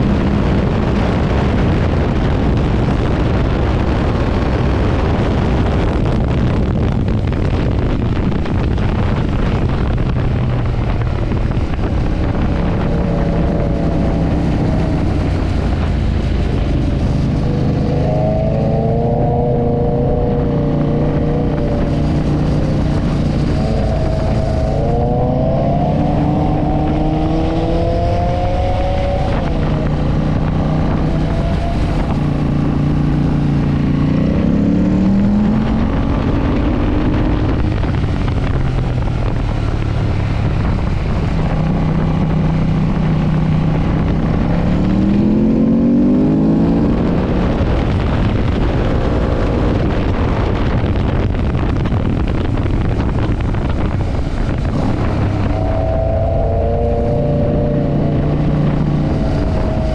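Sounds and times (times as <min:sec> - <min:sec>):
heavy wind rush: 0:00.0 - 0:59.9
motorcycle engine revving: 0:00.0 - 0:59.9.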